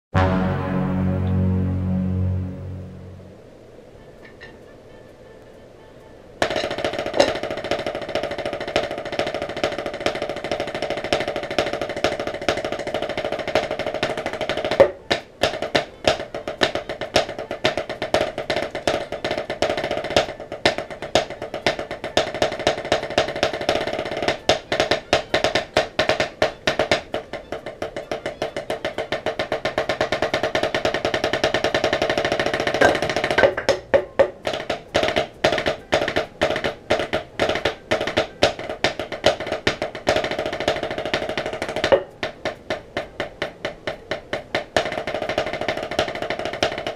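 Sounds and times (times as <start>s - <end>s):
drumsticks on practice pad: 6.4s - 46.9s.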